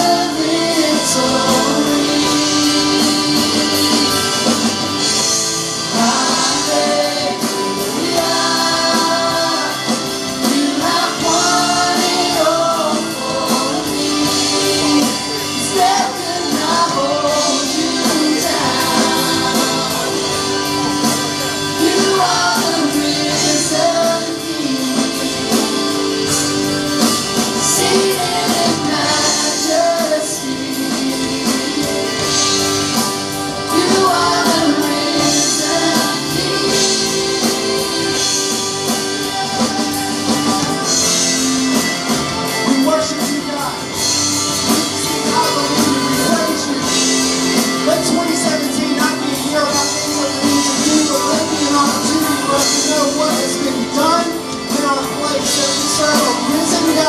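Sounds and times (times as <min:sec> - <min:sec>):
acoustic and electric guitars: 0:00.0 - 0:57.0
drums: 0:00.0 - 0:57.0
voices singing: 0:00.0 - 0:57.0.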